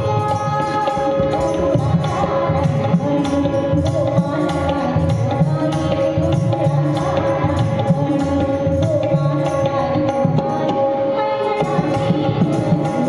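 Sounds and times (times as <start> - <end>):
tabla playing a steady rhythm: 0.0 - 13.0.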